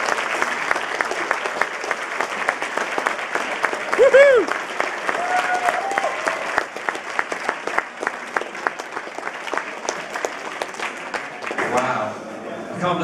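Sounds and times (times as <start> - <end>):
close hands clapping: 0.0 - 11.9
audience applauding: 0.0 - 12.0.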